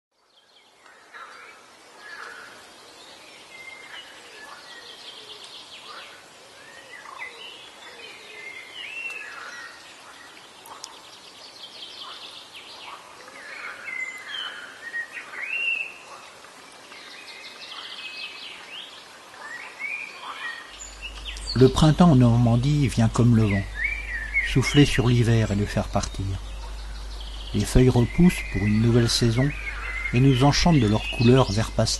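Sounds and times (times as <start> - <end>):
songbirds singing: 0.1 - 31.9.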